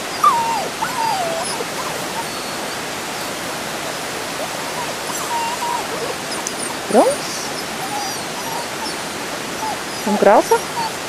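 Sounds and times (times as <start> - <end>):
puppies whimpering: 0.0 - 11.0.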